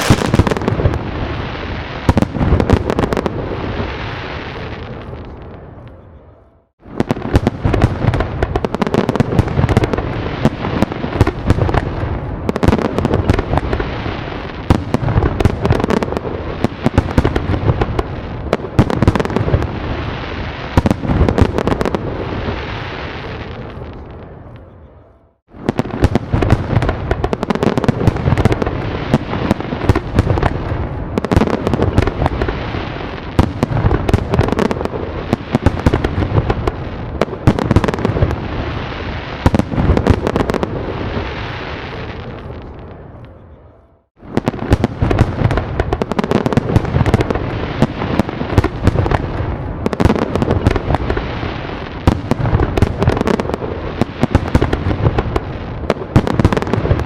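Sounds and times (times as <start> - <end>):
fireworks crackling: 0.0 - 5.9, 6.6 - 24.7, 25.5 - 43.3, 44.1 - 57.0
fireworks bangs and booms: 0.0 - 57.0.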